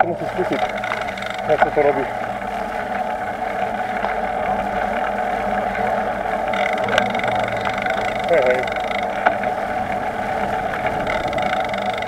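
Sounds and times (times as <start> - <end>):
bicycle tyres and drivetrain whirring: 0.0 - 12.0.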